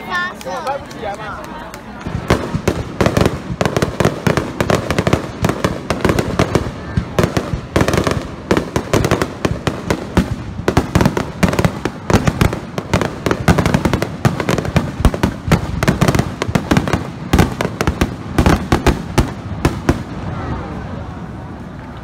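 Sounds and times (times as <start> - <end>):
fireworks bursting: 2.0 - 21.0.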